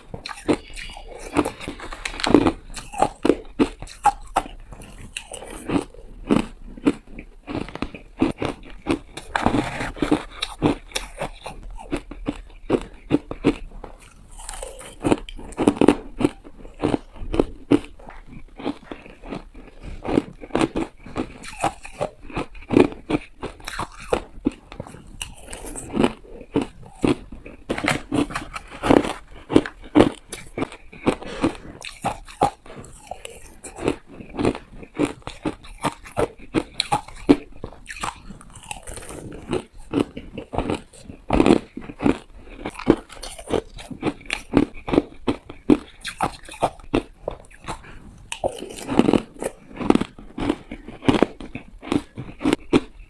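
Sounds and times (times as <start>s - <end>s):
chewing: 0.0s - 53.0s
ice crunching between teeth: 0.0s - 53.0s.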